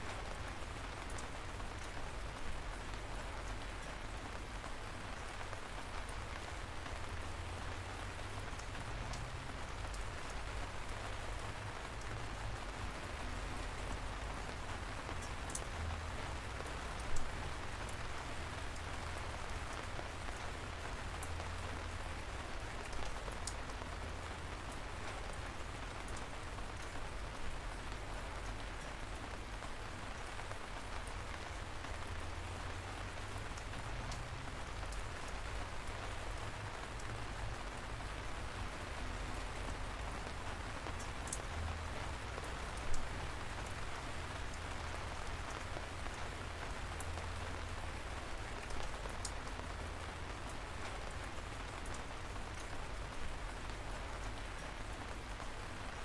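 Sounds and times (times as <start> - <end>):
light rain: 0.0 - 56.0
raindrops ticking close by: 0.0 - 56.0.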